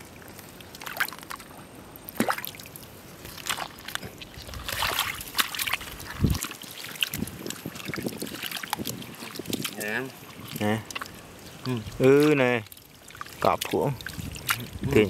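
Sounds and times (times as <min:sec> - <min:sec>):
muddy water sloshing: 0:00.0 - 0:15.0
wet mud squelching: 0:00.0 - 0:15.0.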